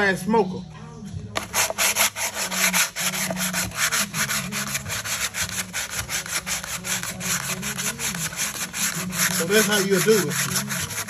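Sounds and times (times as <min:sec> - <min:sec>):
abrasive pad sanding metal rim: 0:01.4 - 0:11.0.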